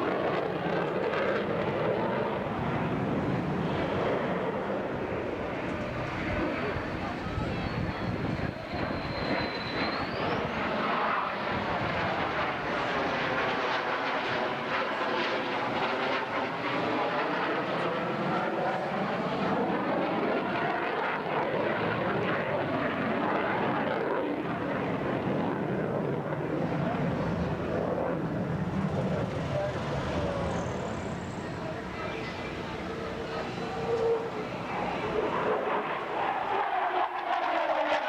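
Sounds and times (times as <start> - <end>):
aircraft engines roaring: 0.0 - 38.0.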